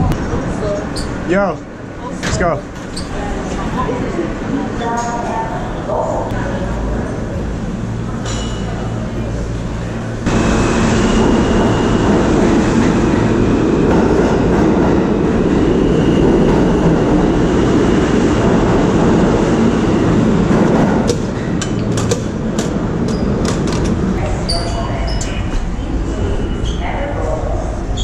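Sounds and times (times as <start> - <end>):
subway train rumbling and rattling: 0.0 - 28.0.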